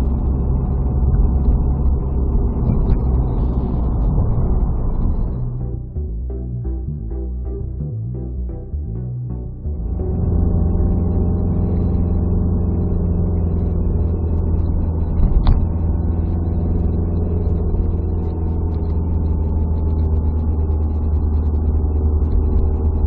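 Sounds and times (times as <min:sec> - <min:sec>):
car engine drone: 0:00.0 - 0:23.0.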